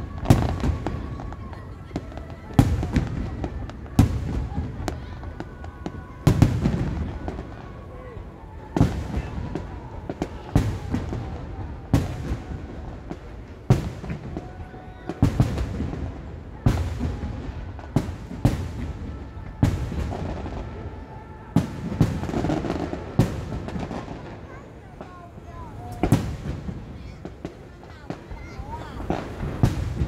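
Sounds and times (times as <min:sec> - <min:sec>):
firework shells booming: 0:00.0 - 0:30.0.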